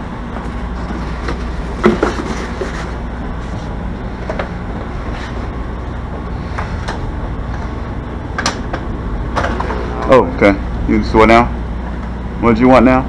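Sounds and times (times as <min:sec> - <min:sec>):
train car rumbling: 0:00.0 - 0:13.0.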